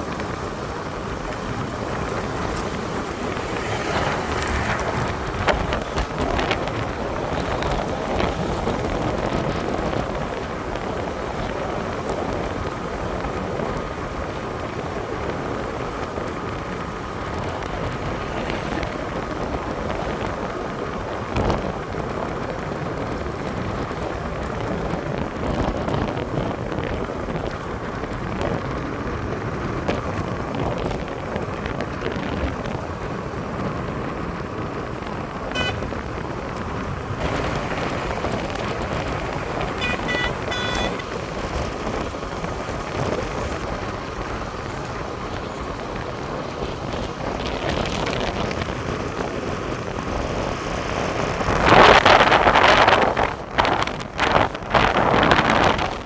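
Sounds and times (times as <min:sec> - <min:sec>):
vehicle road noise: 0:00.0 - 0:56.0
wind on microphone: 0:00.0 - 0:56.0.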